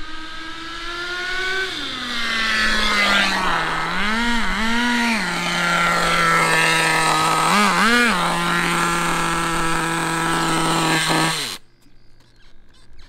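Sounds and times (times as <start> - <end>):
engine throttle blips: 0.0 - 11.6
small nitro engine running: 0.0 - 11.6.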